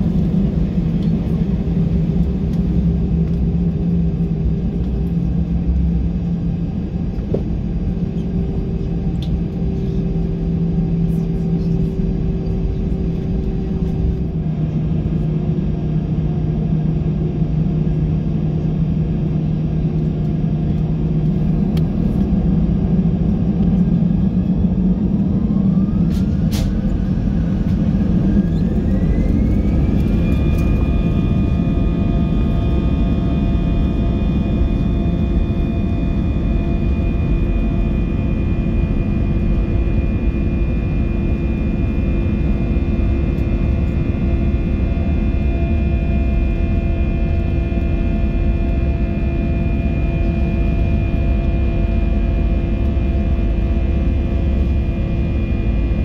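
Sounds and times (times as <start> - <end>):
jet engines humming and spooling up: 0.0 - 56.0.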